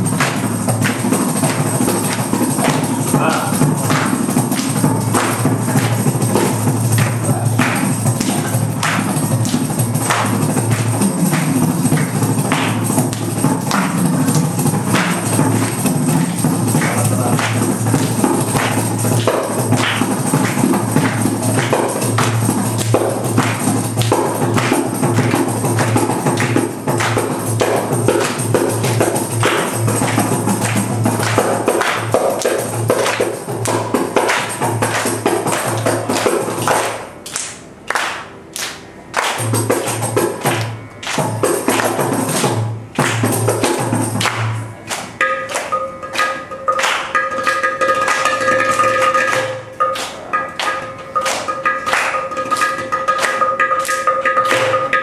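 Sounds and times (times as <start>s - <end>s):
percussion ensemble drum strokes: 0.0s - 55.0s.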